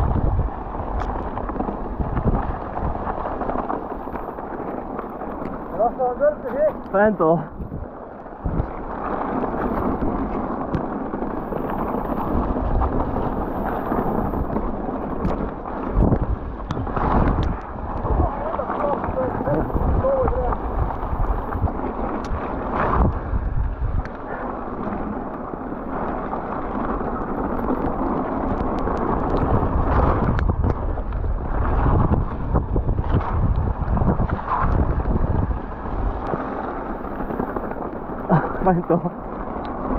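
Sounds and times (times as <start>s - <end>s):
bike clicks and rattles: 0.0s - 39.9s
tyre rumble on trail: 0.0s - 39.9s
wind rush on microphone: 0.0s - 39.9s.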